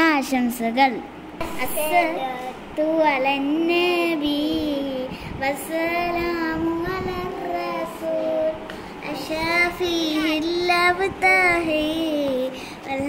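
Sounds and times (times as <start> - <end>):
child singing: 1.5 - 13.0.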